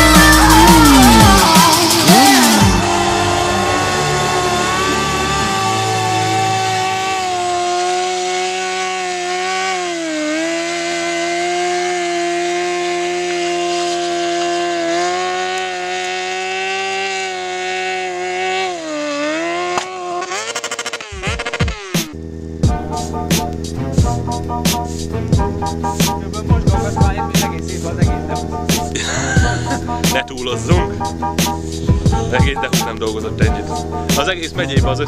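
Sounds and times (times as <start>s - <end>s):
motorcycle engine revving high: 0.0s - 35.0s.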